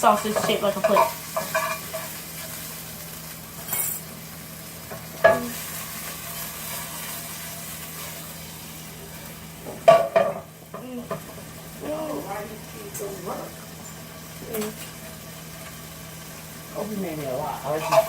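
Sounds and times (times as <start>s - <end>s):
sausage sizzling in a frying pan: 0.0s - 18.0s.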